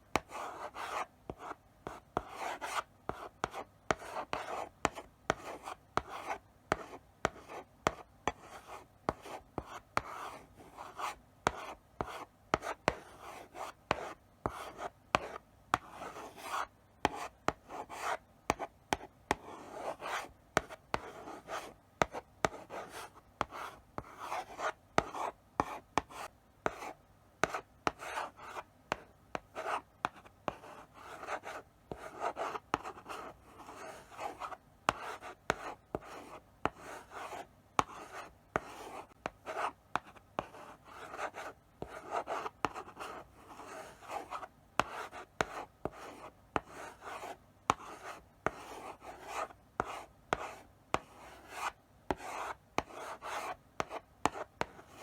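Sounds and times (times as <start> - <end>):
chalk tapping on board: 0.2 - 10.2, 10.9 - 13.0, 13.6 - 26.8, 27.4 - 55.0.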